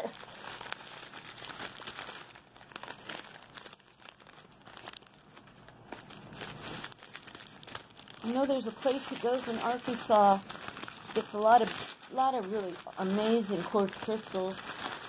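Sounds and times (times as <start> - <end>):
paper crinkling: 0.0 - 15.0.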